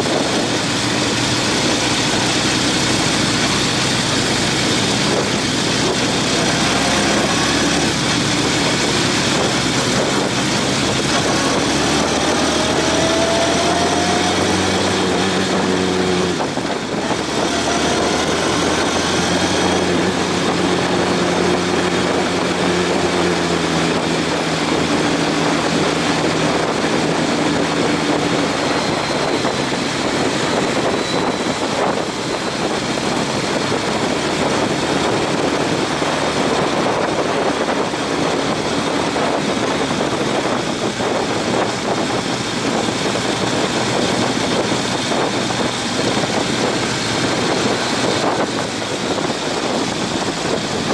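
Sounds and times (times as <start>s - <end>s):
motorcycle engine running: 0.0s - 50.9s
wind rush: 0.0s - 50.9s.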